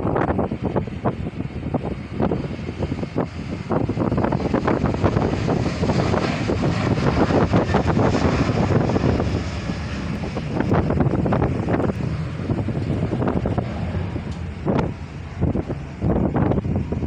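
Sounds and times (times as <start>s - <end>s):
jet airliner taking off: 0.0s - 17.0s.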